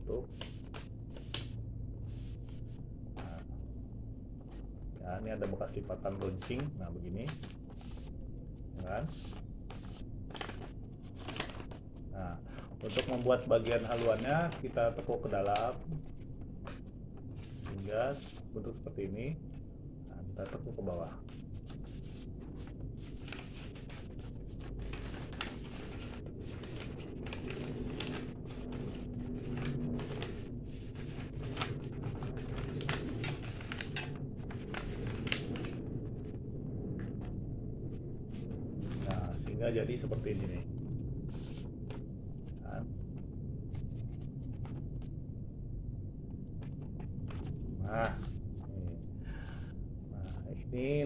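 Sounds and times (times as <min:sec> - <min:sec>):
paper rustling and crinkling: 0:00.0 - 0:03.7, 0:04.4 - 0:19.6, 0:20.3 - 0:45.2, 0:46.5 - 0:50.4
steady low hum: 0:00.0 - 0:51.0.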